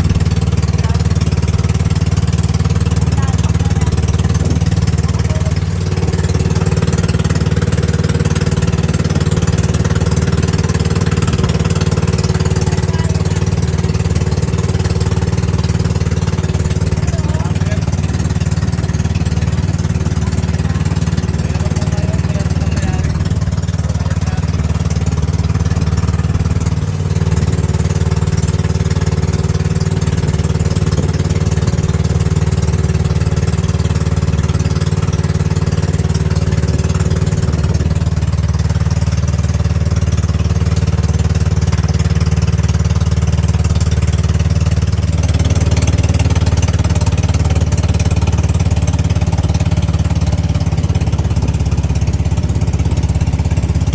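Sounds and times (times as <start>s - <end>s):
boat engine chugging: 0.0s - 53.9s.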